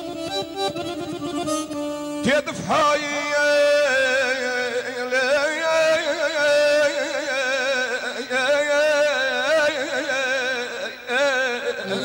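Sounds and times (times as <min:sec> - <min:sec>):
man singing wordless melisma: 0:02.1 - 0:12.0.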